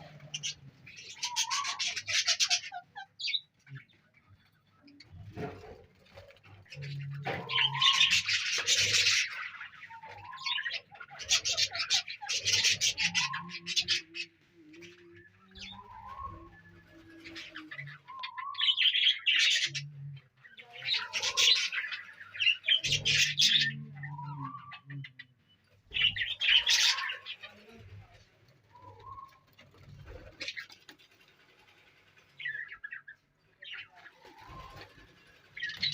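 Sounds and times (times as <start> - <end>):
budgerigars chattering and chirping: 0.0 - 4.4, 5.0 - 16.6, 17.2 - 31.2, 32.3 - 35.9.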